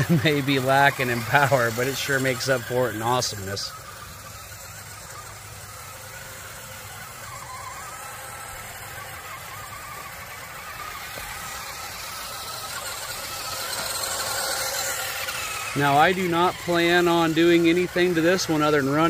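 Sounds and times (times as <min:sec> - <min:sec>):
toy truck motor whirring: 0:00.0 - 0:19.0.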